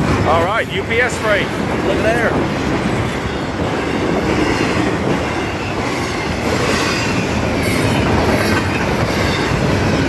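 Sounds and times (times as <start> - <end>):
freight train rumble and clatter: 0.0 - 10.0.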